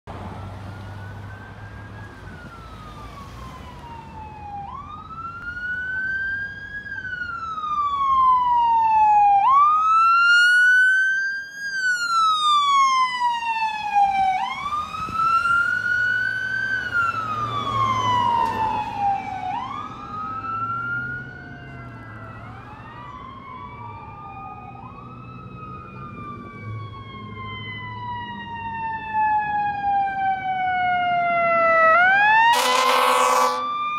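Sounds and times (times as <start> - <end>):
fire engine siren wailing: 0.1 - 33.9
ambulance siren wailing: 0.2 - 33.9.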